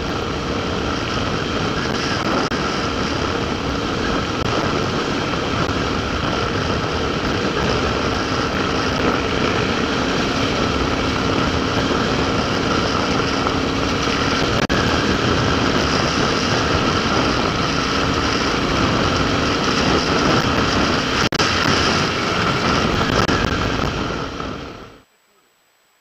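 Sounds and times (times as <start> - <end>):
dirt bike engine running: 0.0 - 25.0
dense rushing noise: 0.0 - 25.1.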